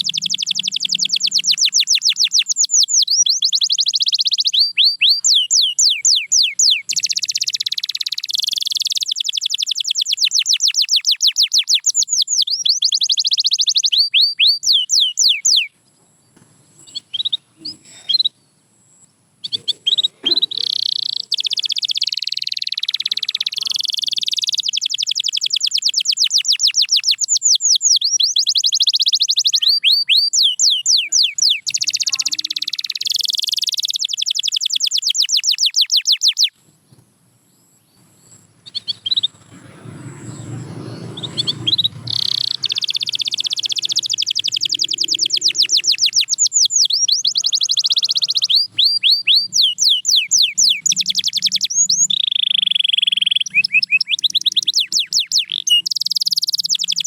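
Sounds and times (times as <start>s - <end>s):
canary singing trills: 0.0s - 16.0s, 16.7s - 36.6s, 37.5s - 57.0s.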